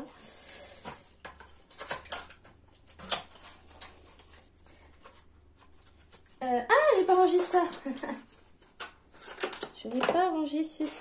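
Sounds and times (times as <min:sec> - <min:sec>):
desk supplies clicking and rustling: 0:00.8 - 0:06.4, 0:07.0 - 0:10.6.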